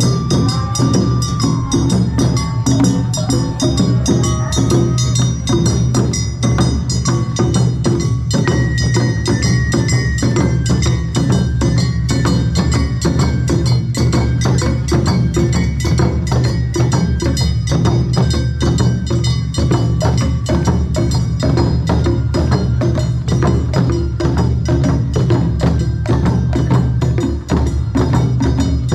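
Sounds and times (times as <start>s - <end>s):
gongs and drums struck fast: 0.0s - 28.9s.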